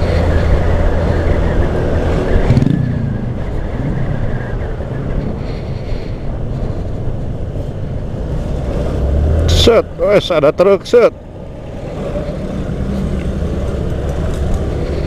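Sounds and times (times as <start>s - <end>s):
heavy wind rush: 0.0s - 15.0s.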